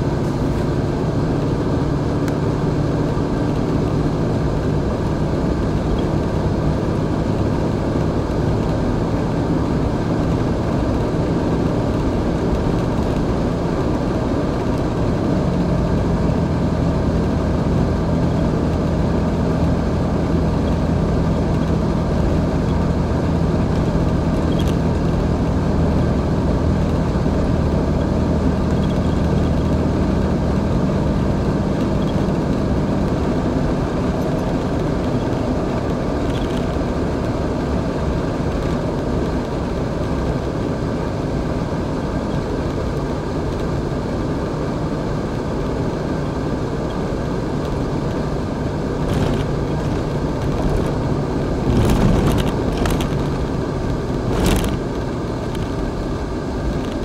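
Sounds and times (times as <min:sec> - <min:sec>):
car engine drone: 0:00.0 - 0:57.0
tyre and road noise: 0:00.0 - 0:57.0.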